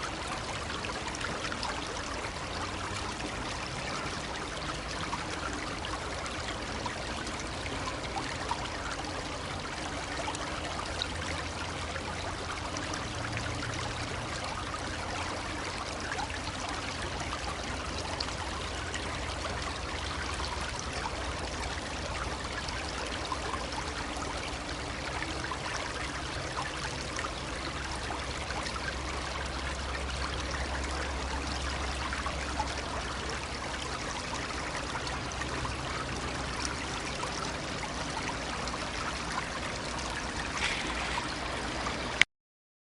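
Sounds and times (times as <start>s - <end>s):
brook babbling: 0.0s - 42.3s.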